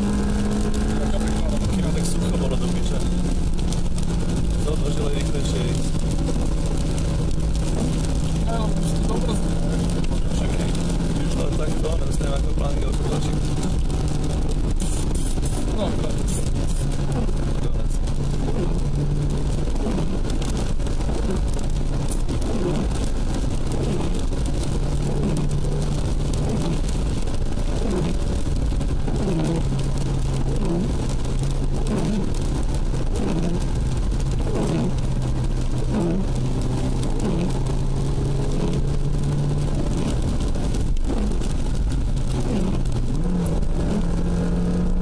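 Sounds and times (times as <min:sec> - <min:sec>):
car engine running: 0:00.0 - 0:45.0
tyres hissing on wet road: 0:00.0 - 0:45.0.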